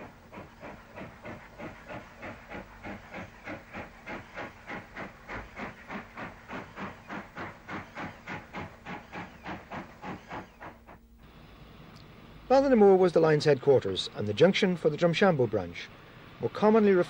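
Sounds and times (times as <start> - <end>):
steam hiss: 0.0 - 17.0
steam locomotive chuffing: 0.0 - 17.0.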